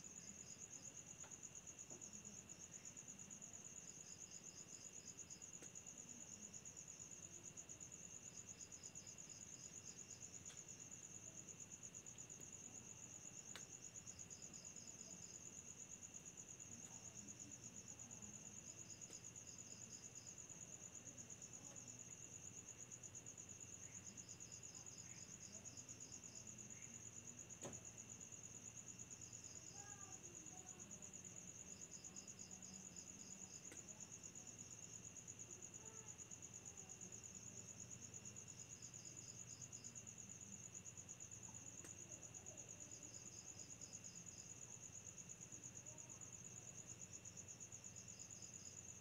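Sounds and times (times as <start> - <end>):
insect chirps: 0.0 - 49.0.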